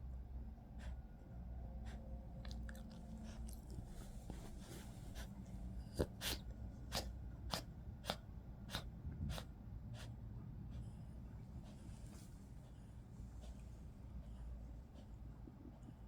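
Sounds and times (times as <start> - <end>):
dog taking short sharp breaths: 1.8 - 15.3.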